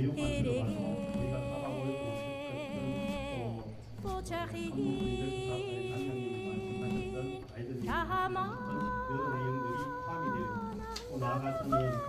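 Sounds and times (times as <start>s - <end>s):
person singing long wavering notes: 0.0s - 12.0s.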